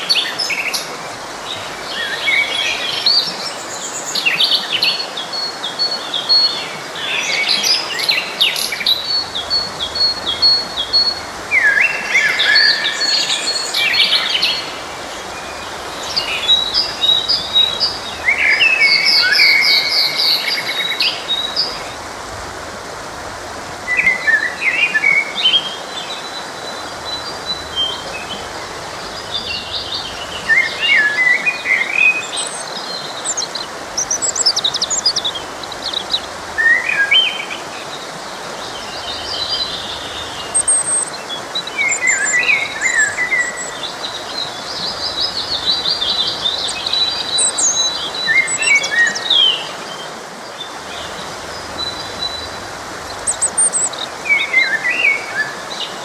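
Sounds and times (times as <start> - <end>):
forest stream rushing: 0.0 - 56.0
songbirds chirping: 0.0 - 56.0.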